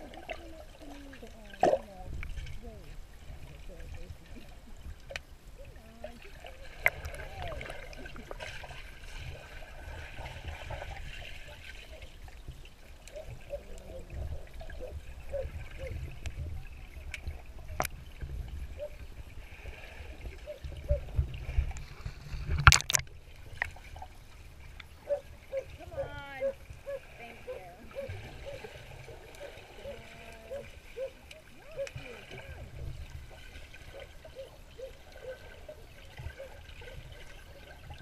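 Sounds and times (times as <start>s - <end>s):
steady low underwater rumble: 0.0s - 38.0s
underwater splashing and gurgling: 0.0s - 38.0s.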